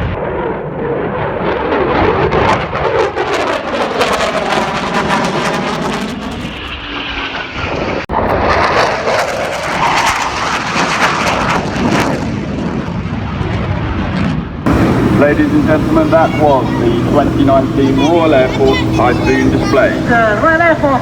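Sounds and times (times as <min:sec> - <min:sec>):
fighter jet flying past: 0:00.0 - 0:21.0.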